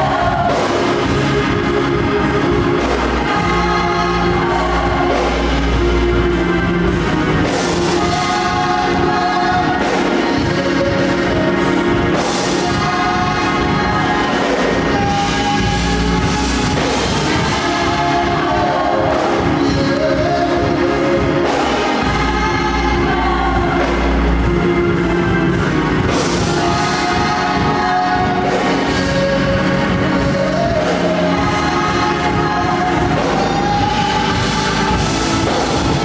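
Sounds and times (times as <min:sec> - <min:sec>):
choir singing gospel: 0:00.0 - 0:36.0
live band with drums and bass: 0:00.0 - 0:36.0.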